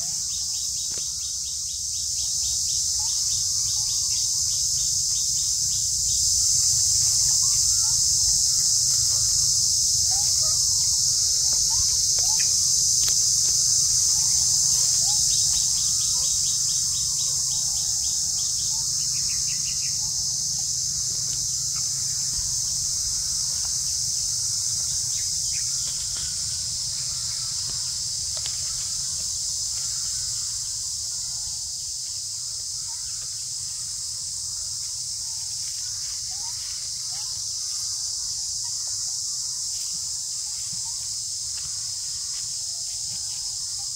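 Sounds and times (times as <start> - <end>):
insects chorus: 0.0 - 43.9.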